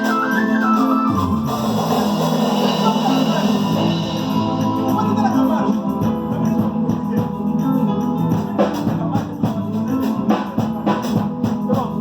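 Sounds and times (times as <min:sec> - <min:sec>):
music with drum beat: 0:00.0 - 0:12.0.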